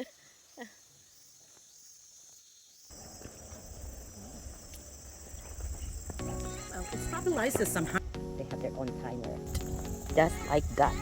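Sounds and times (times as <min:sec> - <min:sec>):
forest insects droning: 0:00.0 - 0:11.0.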